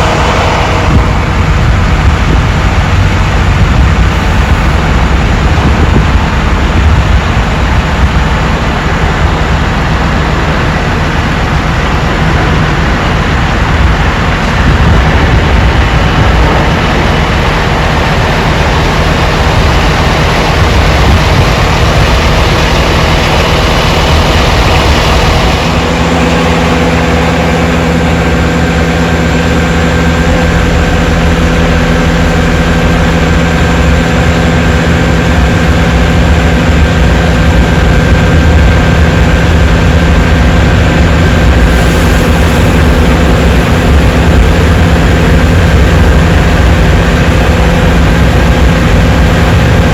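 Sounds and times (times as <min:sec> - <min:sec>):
aircraft engines rumbling: 0:00.0 - 0:49.9
high engine whine: 0:00.0 - 0:49.9.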